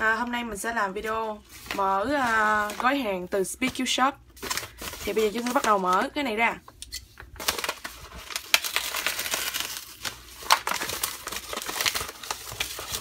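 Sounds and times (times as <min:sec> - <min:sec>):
padded envelope crinkling: 0:00.9 - 0:06.4, 0:07.2 - 0:13.0.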